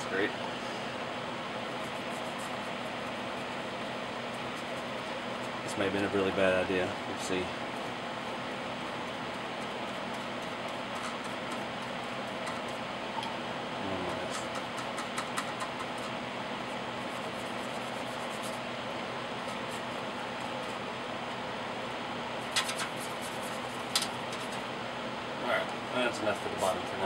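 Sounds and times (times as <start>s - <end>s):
steady fan noise: 0.0s - 27.0s.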